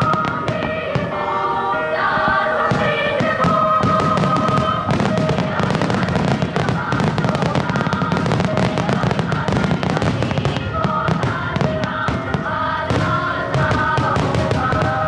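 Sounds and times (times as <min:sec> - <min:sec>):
fireworks bursting and crackling: 0:00.0 - 0:15.0
music over loudspeakers: 0:00.0 - 0:15.0.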